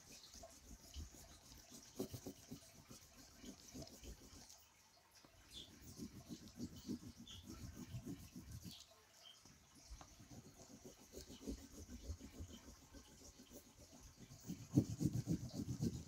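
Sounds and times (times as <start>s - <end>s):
crayon rubbing on paper: 0.0s - 4.6s, 5.6s - 8.8s, 10.2s - 16.0s.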